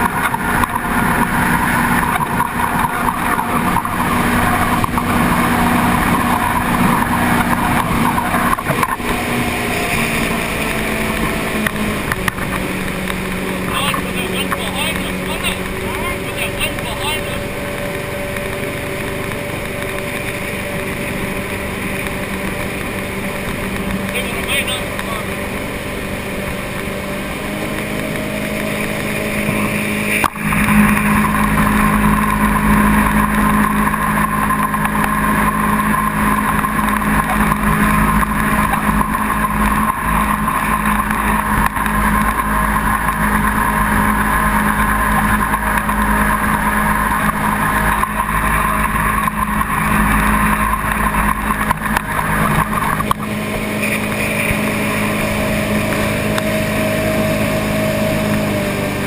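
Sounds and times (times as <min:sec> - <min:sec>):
boat engine running hard: 0:00.0 - 0:59.0.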